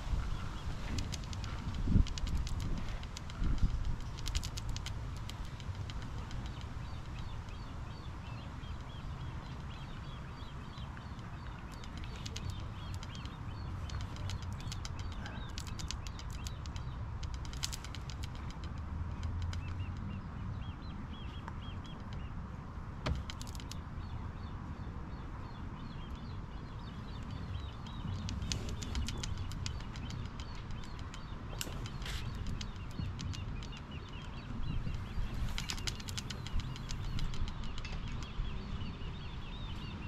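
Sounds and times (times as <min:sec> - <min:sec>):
faint clicking: 0:00.0 - 0:20.2, 0:25.9 - 0:38.4
small birds chirping: 0:00.0 - 0:40.0
steady low rumble: 0:00.0 - 0:40.0.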